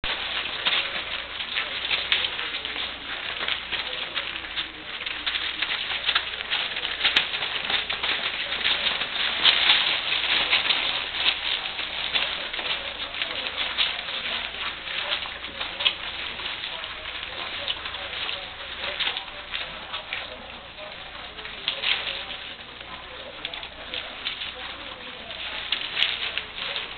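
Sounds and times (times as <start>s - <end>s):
puppies eating and lapping: 0.0s - 26.9s.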